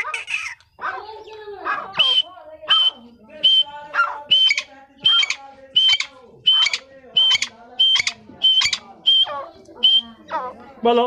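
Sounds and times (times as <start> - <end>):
francolins calling: 0.0 - 10.7.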